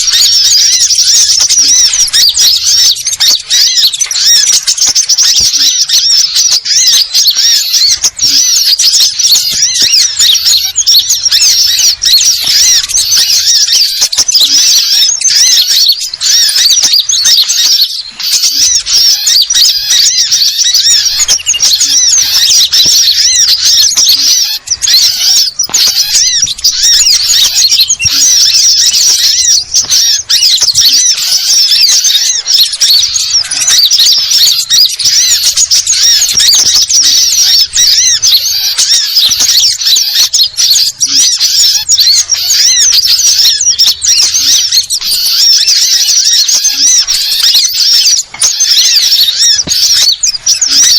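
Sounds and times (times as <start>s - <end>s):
birds chirping and twittering: 0.0s - 50.9s.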